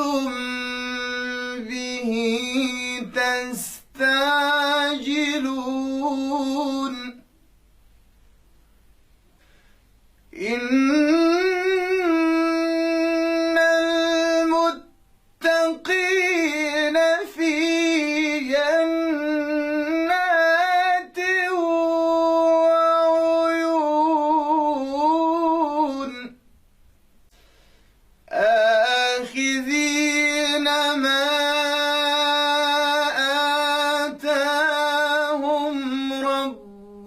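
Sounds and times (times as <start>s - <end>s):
man chanting melodically: 0.0s - 7.2s, 10.3s - 26.4s, 28.3s - 37.0s.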